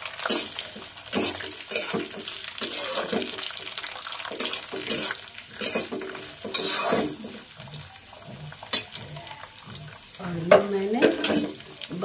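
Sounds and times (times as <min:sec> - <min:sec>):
vegetables sizzling: 0:00.0 - 0:12.0
spatula scraping an iron pan: 0:00.3 - 0:03.3, 0:04.3 - 0:11.6.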